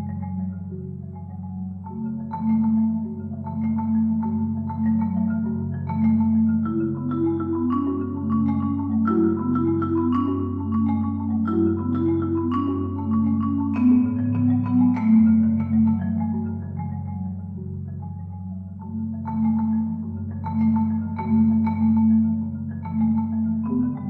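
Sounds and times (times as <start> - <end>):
solo marimba: 0.0 - 24.0.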